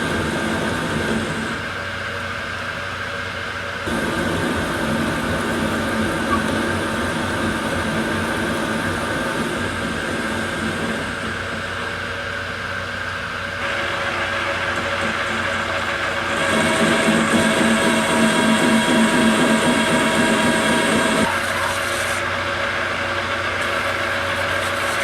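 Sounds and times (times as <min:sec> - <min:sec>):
metal lathe whirring: 0:00.0 - 0:25.0.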